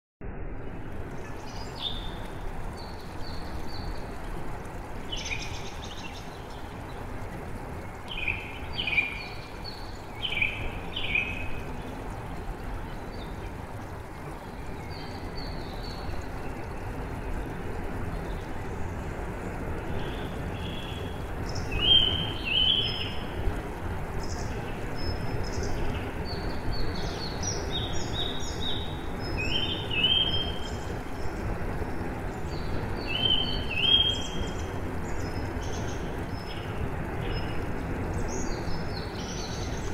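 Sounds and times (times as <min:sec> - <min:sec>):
flowing water: 0:00.2 - 0:39.9
songbirds chirping: 0:00.6 - 0:39.9.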